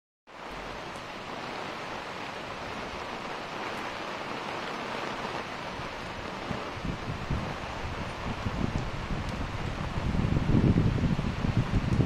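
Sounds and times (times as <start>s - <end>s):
rain pouring: 0.3s - 12.0s.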